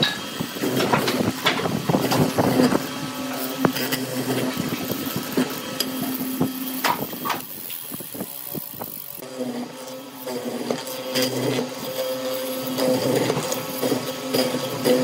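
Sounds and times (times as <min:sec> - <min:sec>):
mortising machine motor hum: 0:00.0 - 0:15.0.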